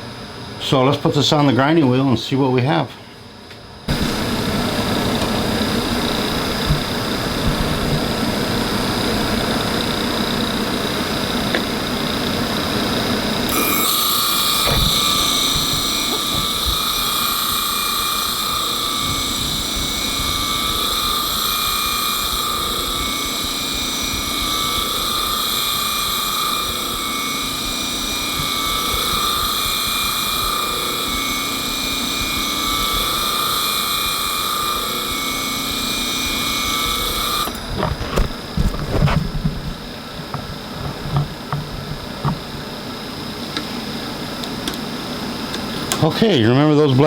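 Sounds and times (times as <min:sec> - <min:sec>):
grinding wheel whining: 0:03.9 - 0:47.0.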